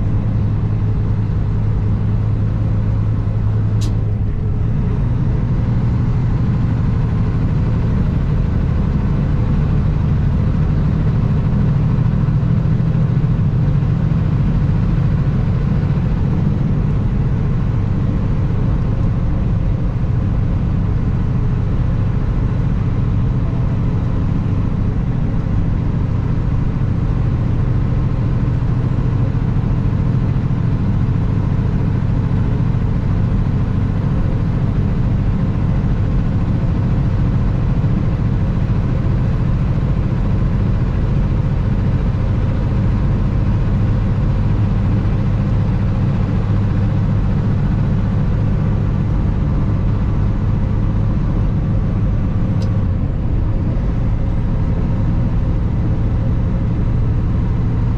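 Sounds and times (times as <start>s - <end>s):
diesel truck engine running: 0.0s - 57.9s.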